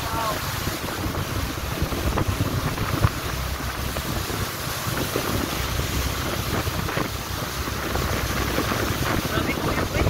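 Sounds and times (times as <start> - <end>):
water rushing along hull: 0.0 - 10.0
wind buffeting microphone: 0.0 - 10.0.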